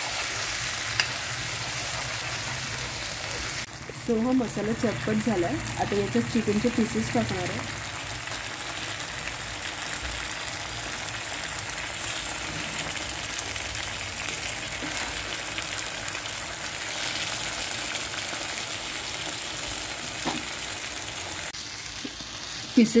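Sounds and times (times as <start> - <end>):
masala sizzling in oil: 0.0 - 23.0.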